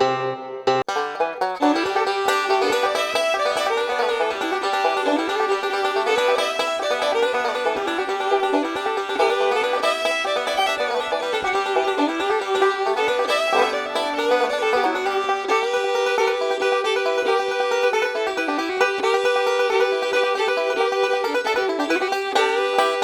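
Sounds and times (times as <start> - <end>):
fiddle: 0.0 - 23.0
plucked banjo: 0.0 - 23.0.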